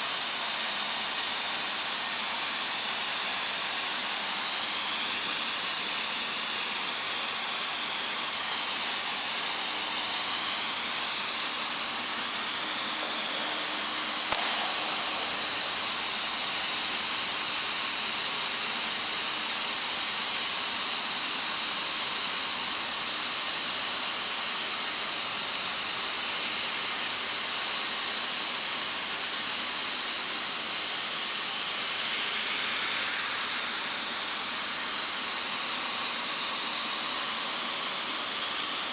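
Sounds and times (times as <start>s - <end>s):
hot-air welding machine hissing: 0.0s - 38.9s.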